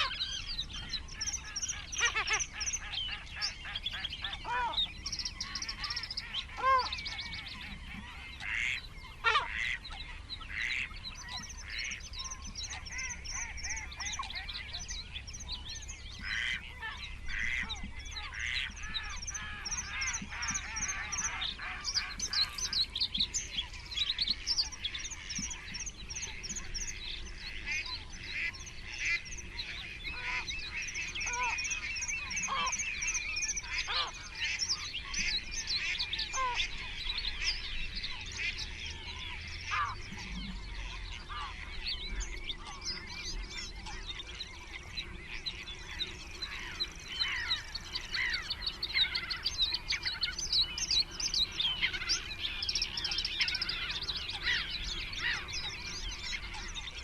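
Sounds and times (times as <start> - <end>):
songbirds chirping and trilling: 0.0 - 57.0
waterbird calls: 0.0 - 57.0.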